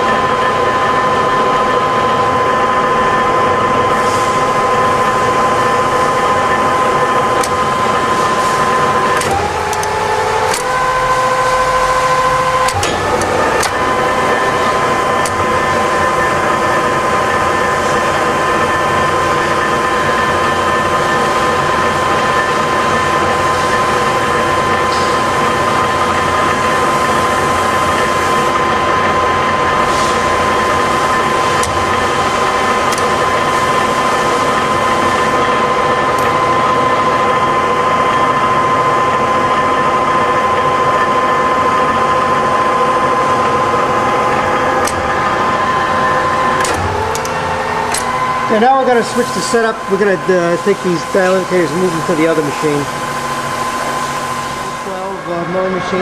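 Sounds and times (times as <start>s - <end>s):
milling machine whining: 0.0s - 56.0s.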